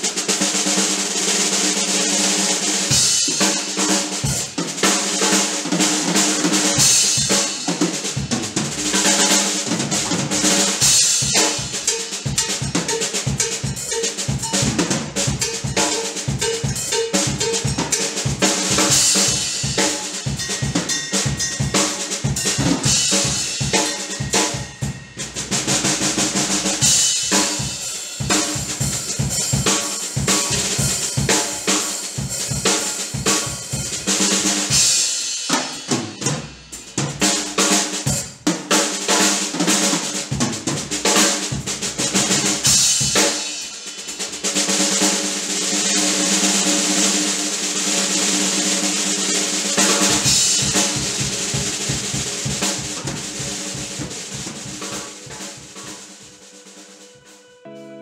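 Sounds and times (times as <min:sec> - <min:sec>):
snare and tom strokes: 0:00.0 - 0:57.5
cymbals washing: 0:01.6 - 0:38.4, 0:39.2 - 0:57.6.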